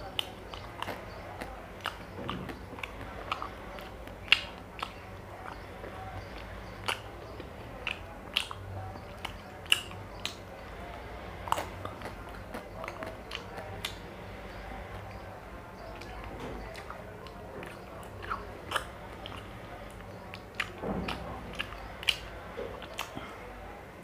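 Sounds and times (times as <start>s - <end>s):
lip smacks: 0.0s - 10.6s, 11.4s - 15.2s, 15.8s - 23.4s
eating ice cream mouth sounds: 0.0s - 23.6s.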